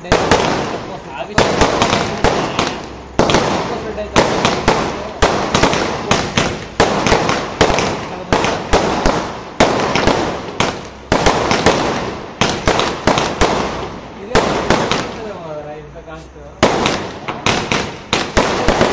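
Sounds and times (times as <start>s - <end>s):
firework shells bursting: 0.0s - 15.5s, 16.5s - 18.9s.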